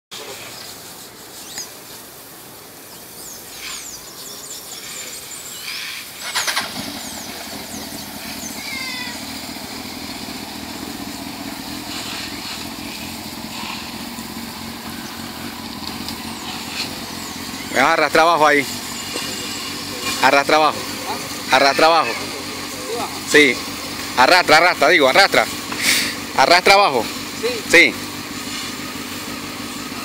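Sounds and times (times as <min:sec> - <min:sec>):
motorcycle engine starting and idling: 0:03.8 - 0:30.0.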